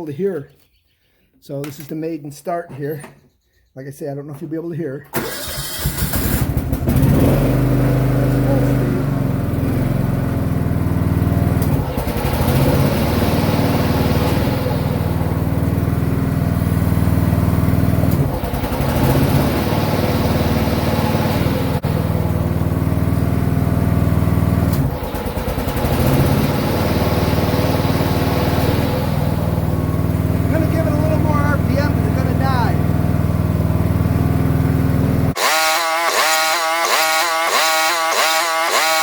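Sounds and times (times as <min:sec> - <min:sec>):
mower engine running: 0:05.2 - 0:39.0.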